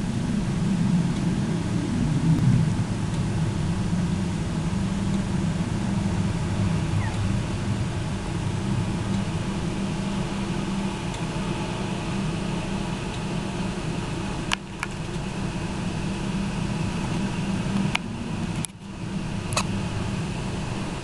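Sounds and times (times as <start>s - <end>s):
storm wind blowing: 0.0s - 21.0s.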